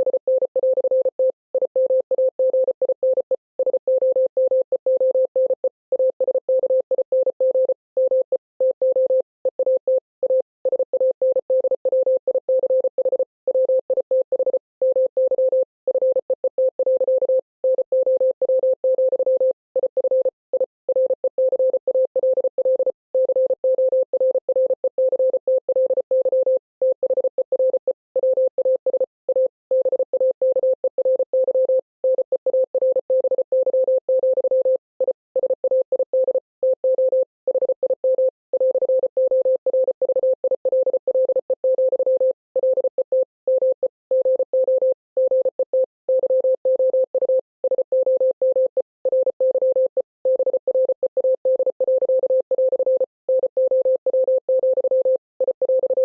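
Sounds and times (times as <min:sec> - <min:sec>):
morse code beeps: 0:00.0 - 0:56.0.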